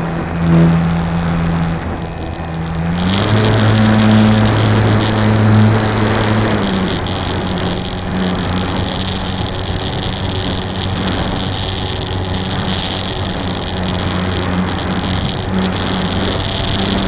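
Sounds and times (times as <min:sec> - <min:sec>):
rc plane motor humming: 0:00.0 - 0:17.0
wind hiss: 0:00.0 - 0:17.0.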